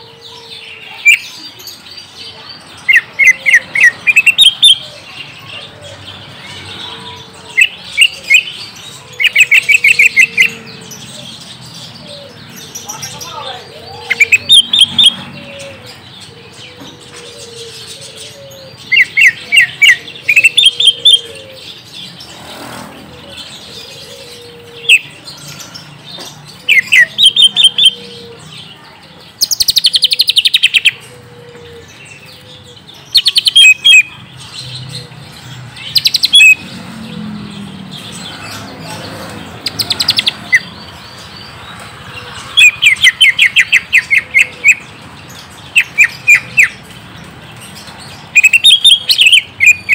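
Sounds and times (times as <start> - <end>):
bird chirping and trilling: 0.0 - 49.9.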